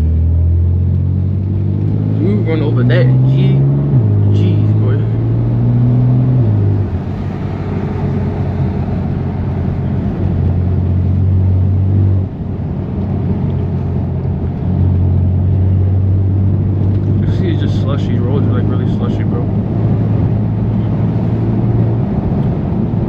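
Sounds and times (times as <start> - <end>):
car exhaust droning: 0.0 - 23.0
road noise: 0.0 - 23.0.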